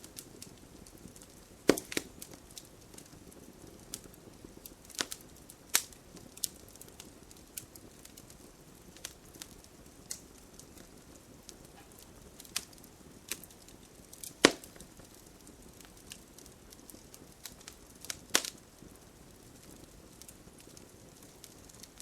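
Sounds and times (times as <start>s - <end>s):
campfire crackling and popping: 0.0s - 22.0s
low steady fire hiss: 0.0s - 22.0s.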